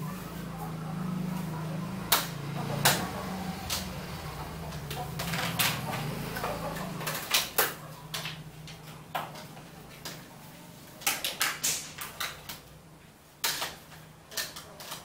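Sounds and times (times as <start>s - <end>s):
plastic toys clacking on tiles: 2.1s - 15.0s.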